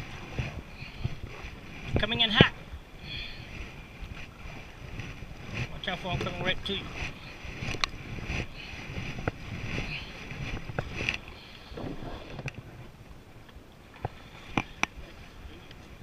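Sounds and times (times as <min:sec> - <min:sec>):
water splashing around kayak: 0:00.0 - 0:16.0.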